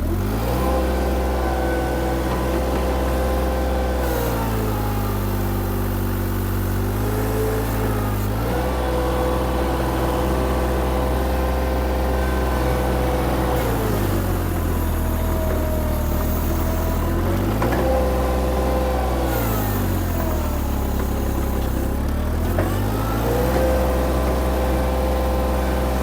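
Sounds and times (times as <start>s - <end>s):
engine running at full throttle: 0.0s - 26.0s.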